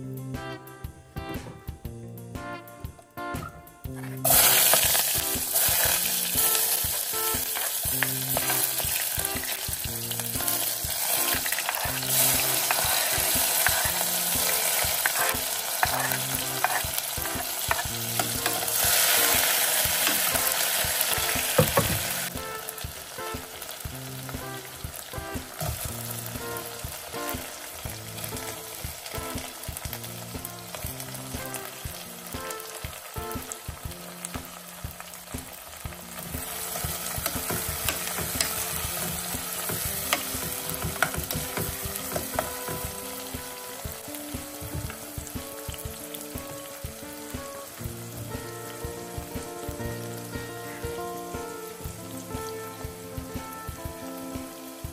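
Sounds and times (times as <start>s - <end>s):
onions sizzling in a pot: 4.0s - 54.9s.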